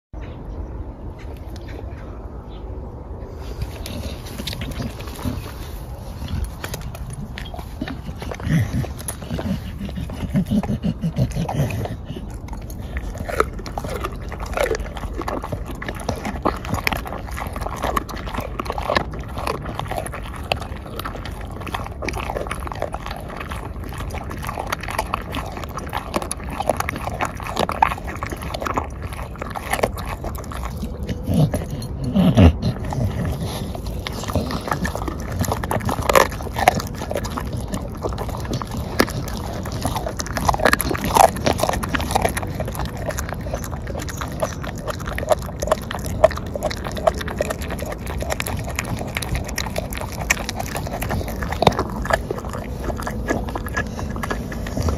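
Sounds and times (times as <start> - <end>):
dog chewing and crunching: 3.3 - 54.9
dog grunt: 3.6 - 54.9.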